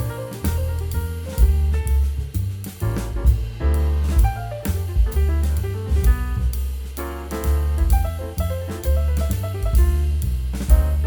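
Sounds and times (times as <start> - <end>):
upbeat jazzy music: 0.0 - 11.0.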